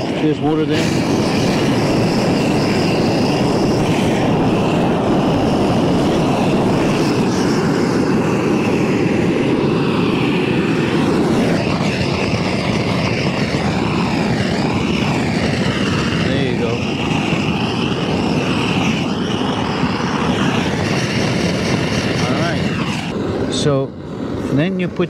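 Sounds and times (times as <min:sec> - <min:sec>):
propane torch flame roaring: 0:00.0 - 0:25.0.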